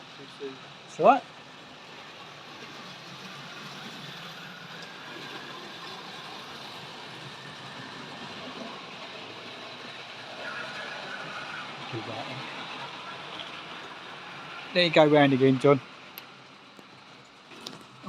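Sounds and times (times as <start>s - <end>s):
model train motor whirring: 0.0s - 18.0s.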